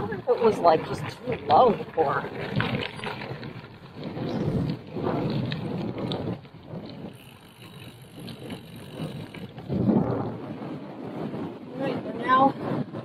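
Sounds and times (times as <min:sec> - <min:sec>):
bike tyres rolling on gravel: 0:00.0 - 0:13.0.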